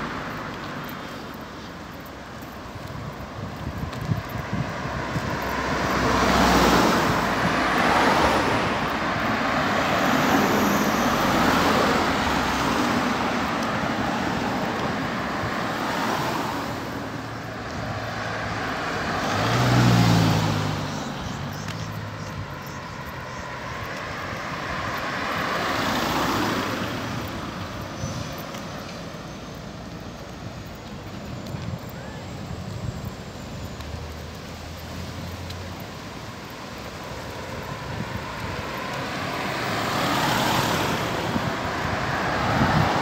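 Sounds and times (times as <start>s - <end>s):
heavy vehicle engine hum: 0.0s - 43.0s
road traffic passing: 0.0s - 43.0s.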